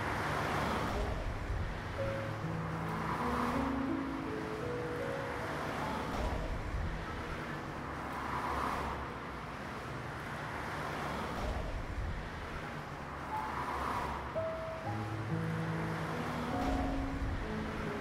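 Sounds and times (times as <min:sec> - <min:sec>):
road traffic noise: 0:00.0 - 0:18.0
vehicles passing: 0:00.0 - 0:18.0.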